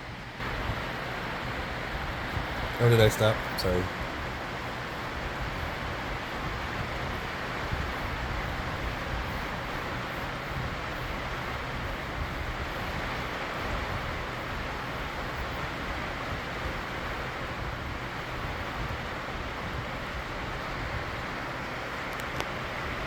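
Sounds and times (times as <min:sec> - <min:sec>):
thunderstorm rushing and rumbling: 0:00.0 - 0:23.0.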